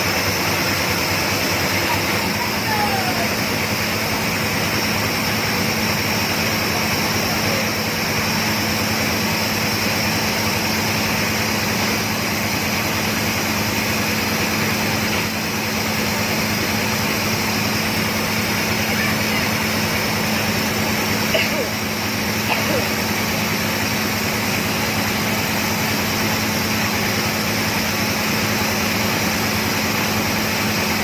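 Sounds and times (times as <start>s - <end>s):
drilling rig engine humming: 0.0s - 31.0s.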